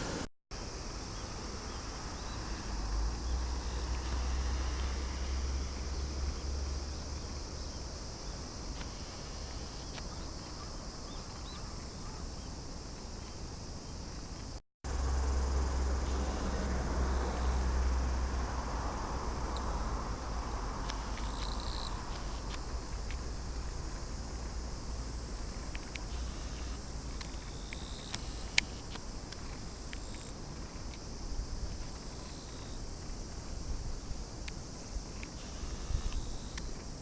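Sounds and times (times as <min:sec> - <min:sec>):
insects chorus: 0:00.0 - 0:37.0.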